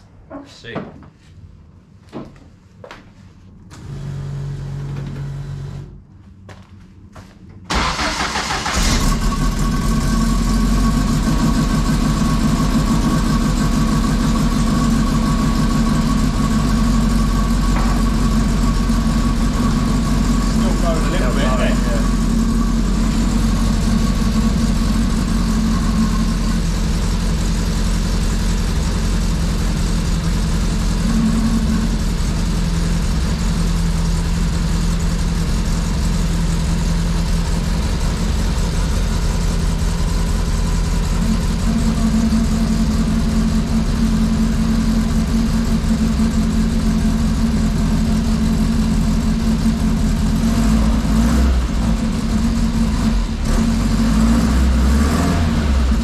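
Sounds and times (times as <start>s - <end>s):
car engine idling: 7.7s - 56.0s.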